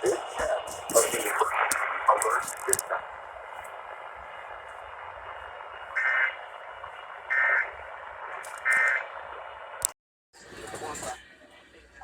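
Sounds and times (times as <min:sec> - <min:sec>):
radio reception hiss: 0:00.0 - 0:09.8.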